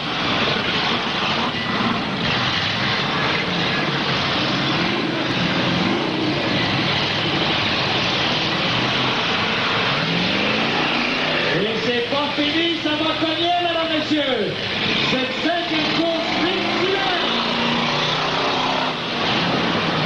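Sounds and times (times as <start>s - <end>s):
wheels spinning: 0.0s - 11.8s, 14.6s - 20.0s
car engines at full throttle: 0.0s - 20.0s.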